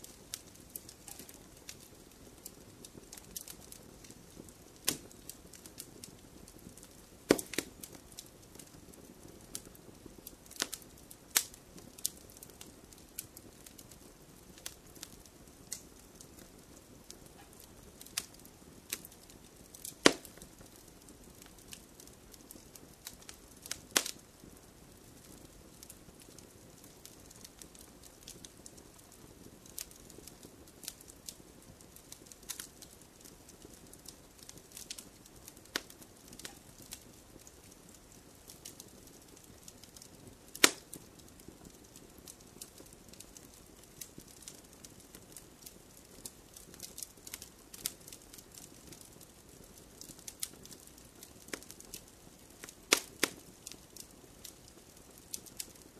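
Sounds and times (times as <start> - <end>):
hiss of flames: 0.0 - 55.9
wood fire crackling and popping: 0.0 - 55.9.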